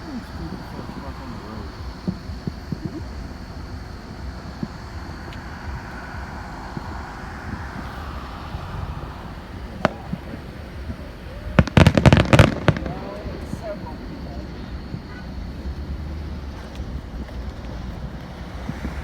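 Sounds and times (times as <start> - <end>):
fireworks cracking: 0.0 - 19.0.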